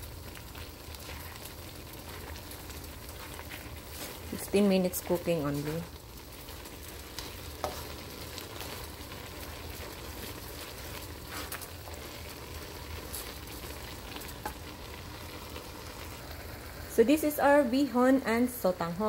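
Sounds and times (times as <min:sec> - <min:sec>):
sauce bubbling: 0:00.0 - 0:17.0
food sizzling in a wok: 0:00.0 - 0:19.0.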